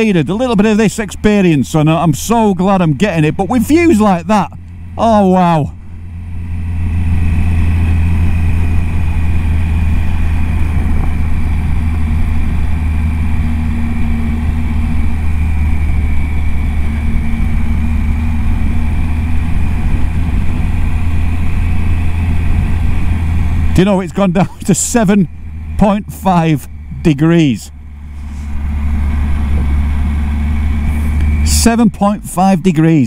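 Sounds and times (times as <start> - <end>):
motorcycle engine cruising: 0.0 - 33.0
wind and road noise: 0.0 - 33.0.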